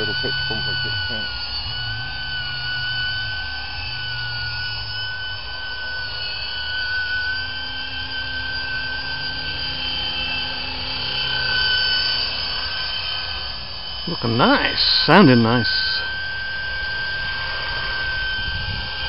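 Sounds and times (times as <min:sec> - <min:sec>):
model helicopter whine: 0:00.0 - 0:19.0.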